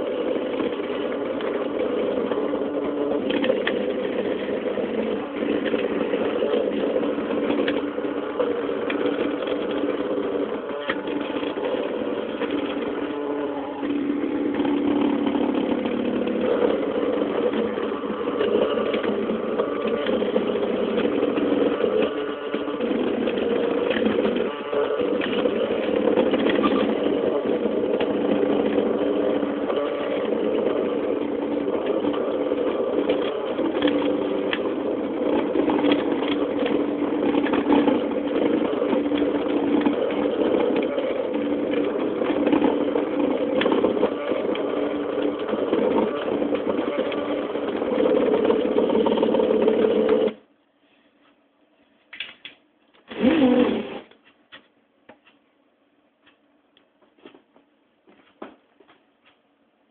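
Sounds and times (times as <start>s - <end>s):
drawing machine motors humming: 0.0s - 50.5s, 53.0s - 54.2s.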